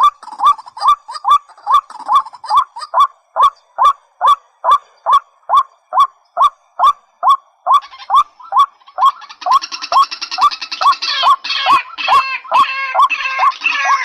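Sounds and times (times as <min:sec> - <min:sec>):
higher-pitched bird chatter: 0:00.0 - 0:14.0.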